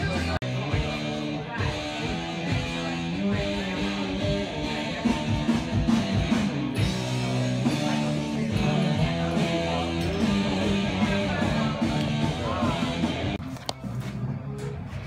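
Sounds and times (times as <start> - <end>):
rock music with guitar: 0.0 - 14.7.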